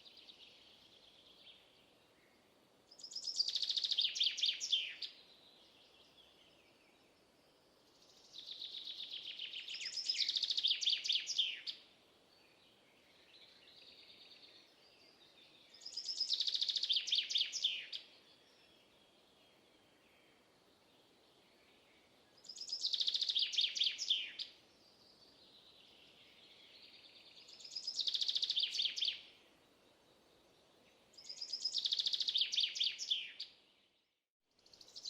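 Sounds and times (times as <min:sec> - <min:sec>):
songbird high chirping song: 0:00.0 - 0:35.0.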